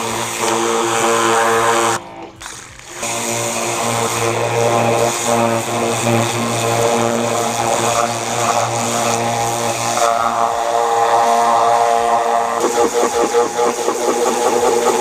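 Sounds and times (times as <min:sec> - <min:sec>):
pressure washer running: 0:00.0 - 0:15.0
water jet hissing on metal: 0:00.0 - 0:15.0.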